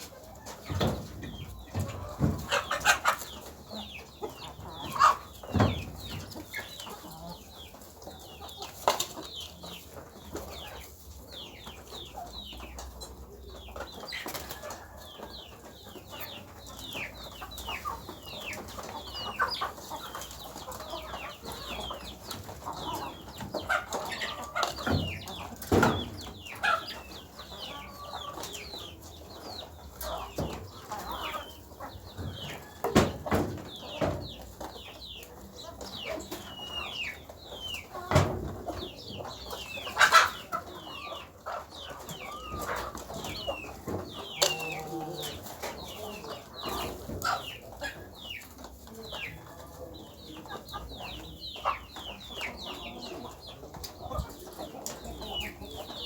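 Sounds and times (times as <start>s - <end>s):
chickens calling: 0.0s - 56.0s.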